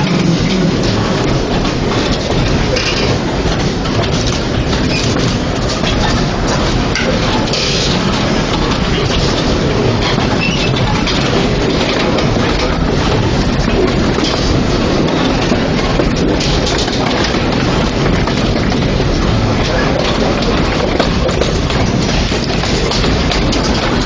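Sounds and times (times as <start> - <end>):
steam train wheels clattering: 0.0 - 24.0.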